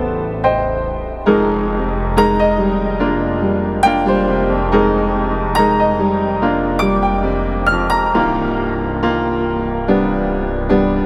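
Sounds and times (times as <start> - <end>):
soft slow piano music: 0.0 - 11.0.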